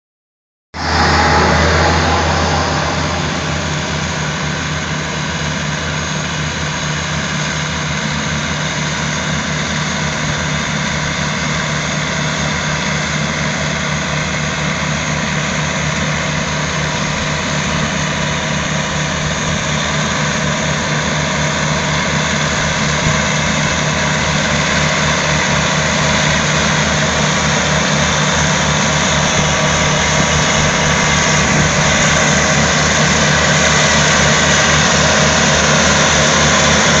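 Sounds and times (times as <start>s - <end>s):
tractor diesel engine running: 0.8s - 37.0s.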